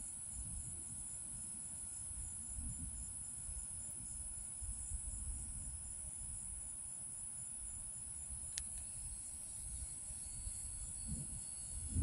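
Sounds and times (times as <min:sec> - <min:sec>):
wind rumble on microphone: 0:00.0 - 0:06.7, 0:07.7 - 0:12.0
high-pitched insect trilling: 0:01.8 - 0:12.0.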